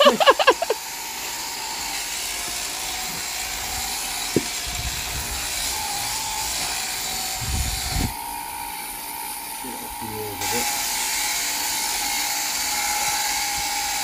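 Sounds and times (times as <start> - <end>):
electric shearing handpiece running: 0.0 - 14.0.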